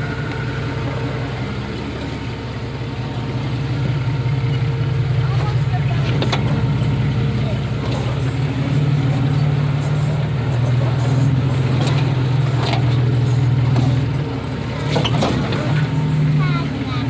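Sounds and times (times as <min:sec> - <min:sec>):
low engine drone: 0:00.0 - 0:17.0
tyre and road noise: 0:00.0 - 0:17.0.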